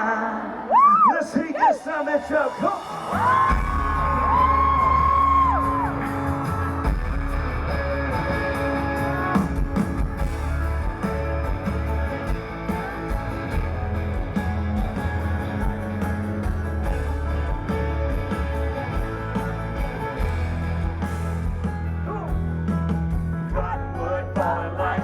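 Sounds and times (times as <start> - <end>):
guitar: 2.1 - 25.0
country band playing: 2.6 - 25.0.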